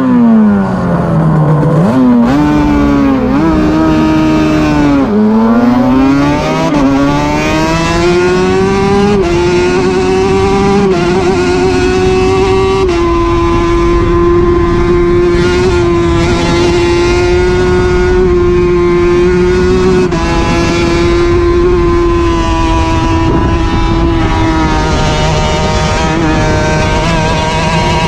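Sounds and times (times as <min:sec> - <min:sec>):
racing engine at high revs: 0:00.0 - 0:28.0
wind rush on microphone: 0:02.0 - 0:28.0.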